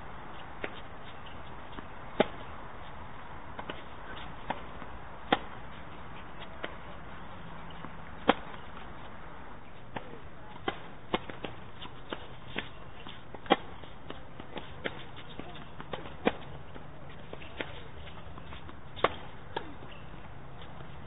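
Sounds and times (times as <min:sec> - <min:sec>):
racket hitting tennis ball: 0:00.6 - 0:02.5, 0:03.5 - 0:09.0, 0:09.9 - 0:20.0.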